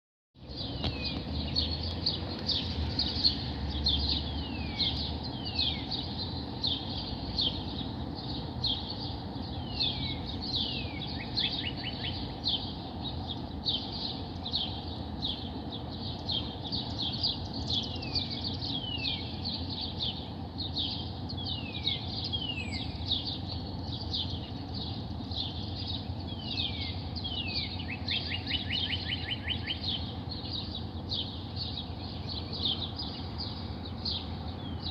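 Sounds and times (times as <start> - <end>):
birds chirping: 0.4 - 34.9
low background noise: 0.4 - 34.9
bird trill: 0.5 - 34.9.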